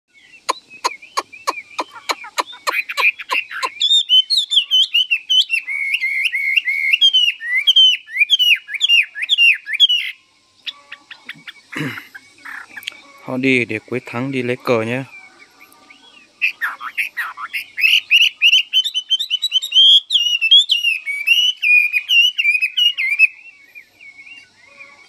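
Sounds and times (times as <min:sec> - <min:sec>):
songbird high chirps: 0:00.1 - 0:25.0
songbird clicking calls: 0:00.3 - 0:25.0.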